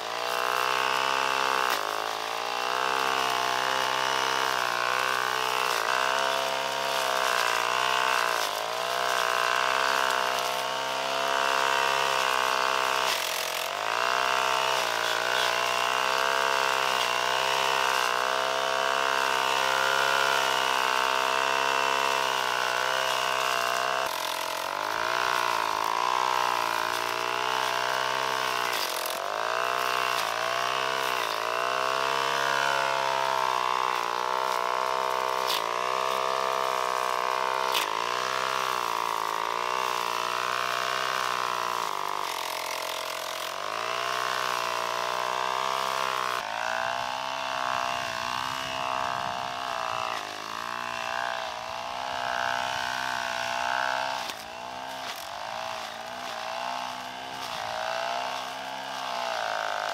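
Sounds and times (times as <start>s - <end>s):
small motor running: 0.0s - 59.9s.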